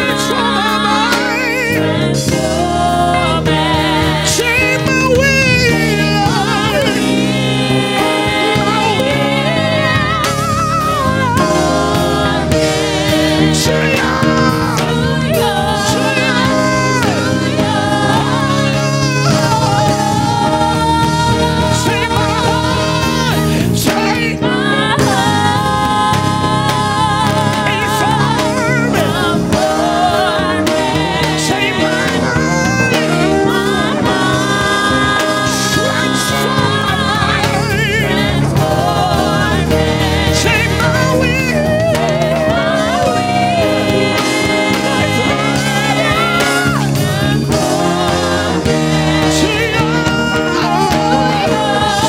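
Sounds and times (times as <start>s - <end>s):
band playing held chords: 0.0s - 52.0s
slow gospel worship music: 0.0s - 52.0s
wordless vocal with vibrato: 0.0s - 52.0s.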